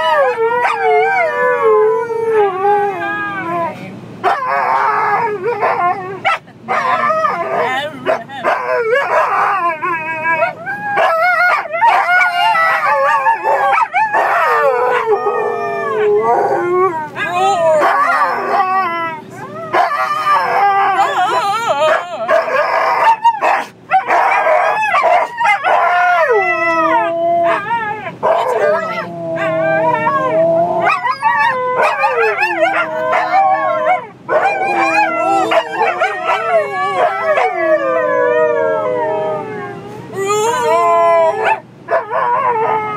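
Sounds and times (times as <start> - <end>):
dogs howling and yipping: 0.0 - 42.9.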